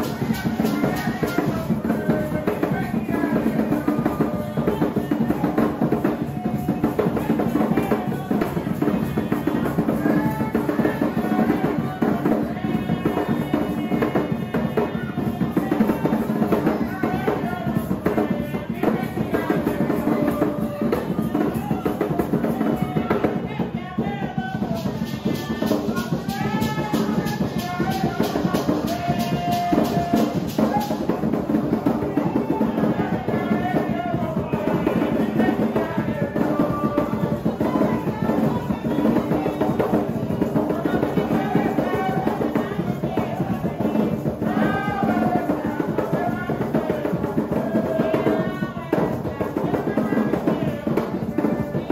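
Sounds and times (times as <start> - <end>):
hand drums beating: 0.0 - 51.9
voices singing: 0.0 - 51.9.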